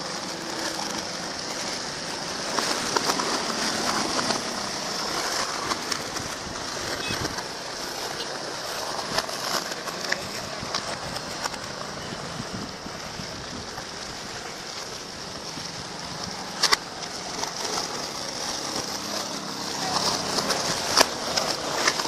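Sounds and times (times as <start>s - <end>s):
skateboard wheels rolling on stone: 0.0s - 22.0s.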